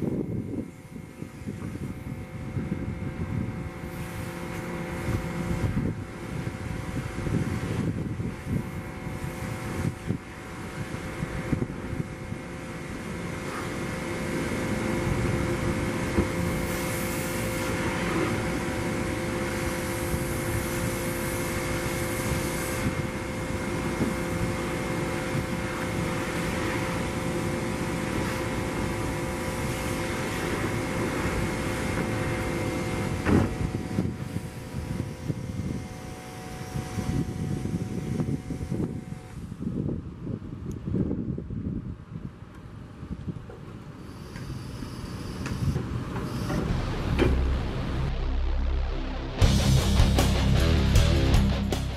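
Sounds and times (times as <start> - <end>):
truck engine hum with whine: 0.0 - 51.9.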